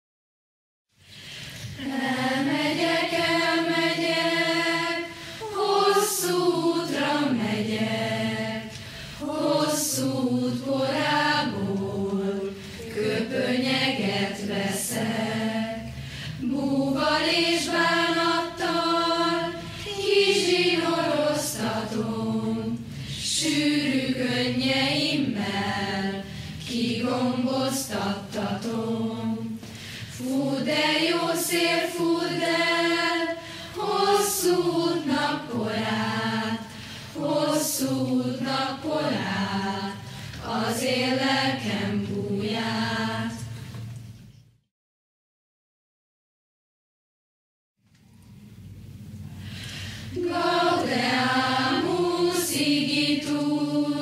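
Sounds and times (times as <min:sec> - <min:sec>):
choir singing slow song: 0:01.0 - 0:44.0, 0:49.4 - 0:54.0.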